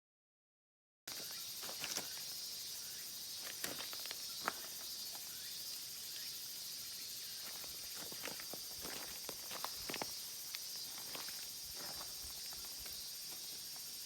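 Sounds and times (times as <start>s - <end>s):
high outdoor hiss: 1.1s - 14.0s.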